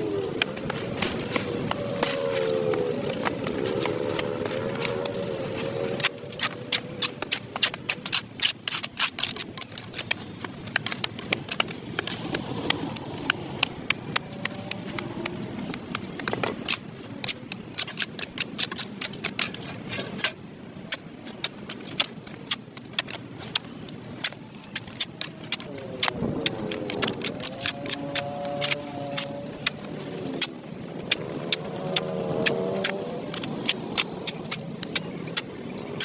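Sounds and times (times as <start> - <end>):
hand tool scraping dirt off concrete: 0.0 - 36.0.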